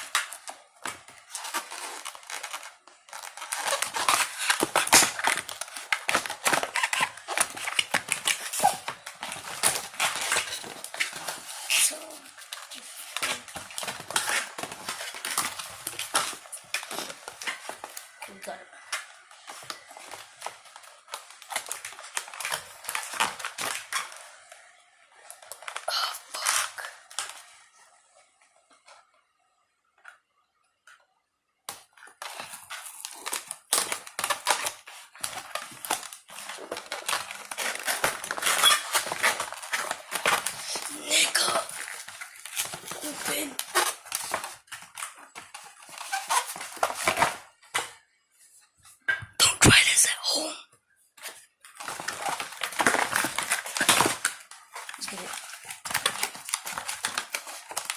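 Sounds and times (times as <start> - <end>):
packaging crinkling and rustling: 0.0 - 27.9, 31.7 - 48.0, 51.2 - 57.9.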